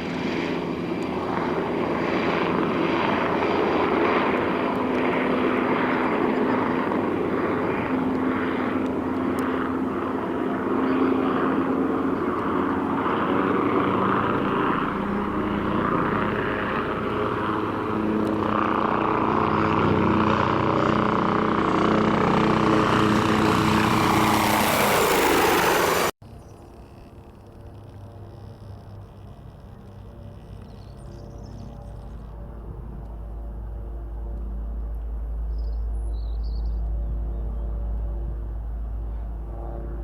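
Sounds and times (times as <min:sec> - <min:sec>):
propeller engine drone: 0:00.0 - 0:40.0.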